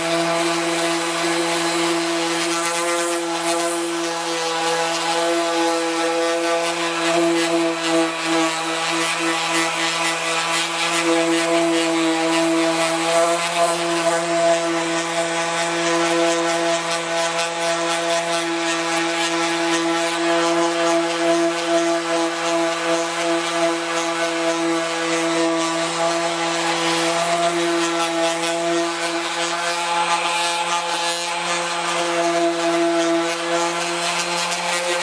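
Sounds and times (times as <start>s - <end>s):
power sander on metal: 0.0s - 35.0s.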